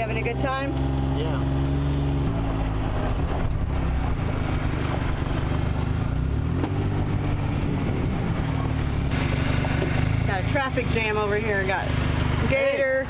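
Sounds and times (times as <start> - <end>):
small vehicle engine running: 0.0 - 13.0.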